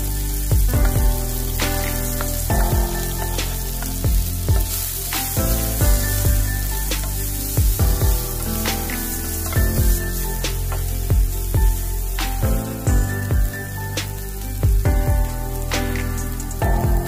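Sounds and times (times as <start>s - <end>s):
background music with beat: 0.0s - 17.0s
vegetables sizzling in a frying pan: 0.0s - 17.0s.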